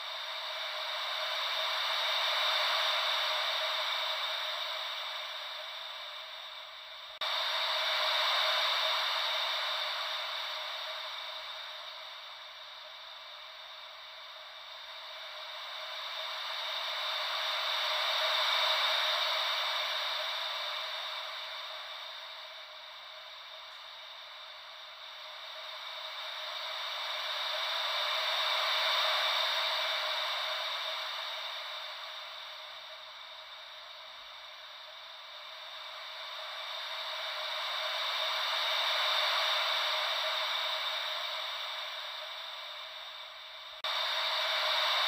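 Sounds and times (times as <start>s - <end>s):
ocean wave white noise: 0.0s - 45.0s.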